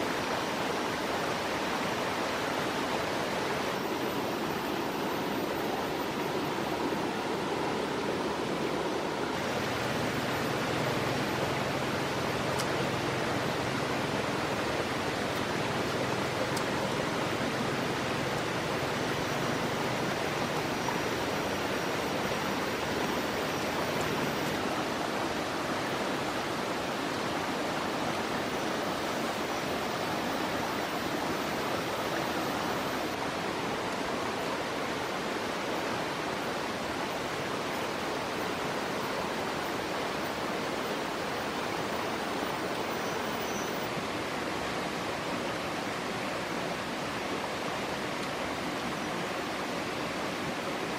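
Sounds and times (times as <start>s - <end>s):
steady rushing noise: 0.0s - 50.9s.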